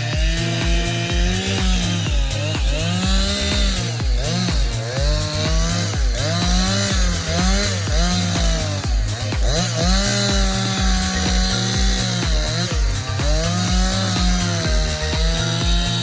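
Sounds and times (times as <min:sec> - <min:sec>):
background music with bass beat: 0:00.0 - 0:16.0
chainsaw engine revving: 0:00.0 - 0:16.0.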